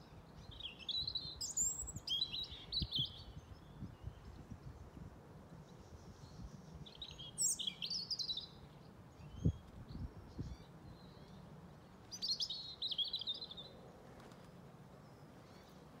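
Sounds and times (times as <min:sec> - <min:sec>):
robin singing: 0:00.0 - 0:04.9, 0:05.6 - 0:13.8.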